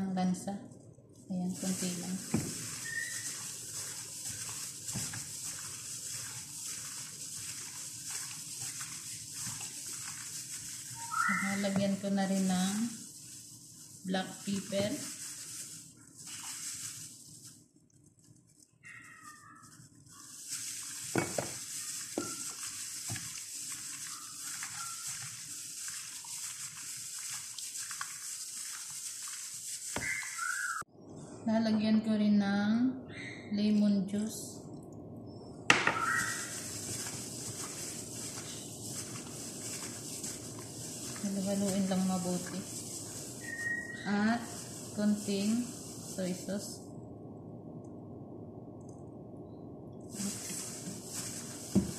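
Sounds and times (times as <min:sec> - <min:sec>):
plastic glove rustle: 0:00.4 - 0:30.9, 0:35.7 - 0:46.9, 0:50.1 - 0:51.9
wet sloshing of meat being mixed: 0:00.8 - 0:30.9, 0:35.9 - 0:46.8, 0:50.1 - 0:51.9.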